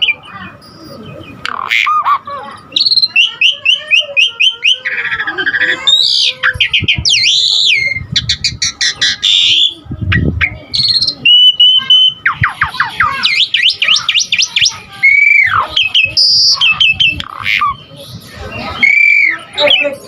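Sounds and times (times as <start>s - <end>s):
starling singing: 0.0s - 20.0s.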